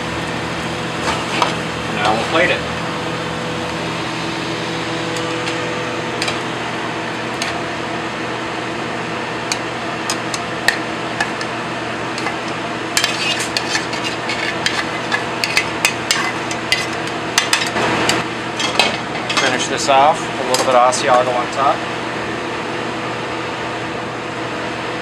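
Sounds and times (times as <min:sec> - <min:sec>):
ventilation hum: 0:00.0 - 0:25.0.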